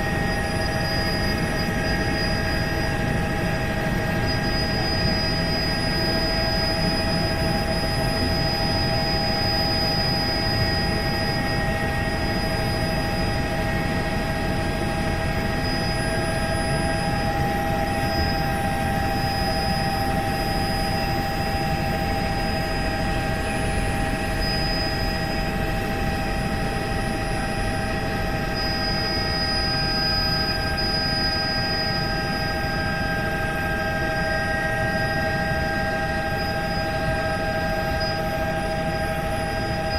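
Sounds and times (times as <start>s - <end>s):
helicopter rumble with whine: 0.0s - 39.9s.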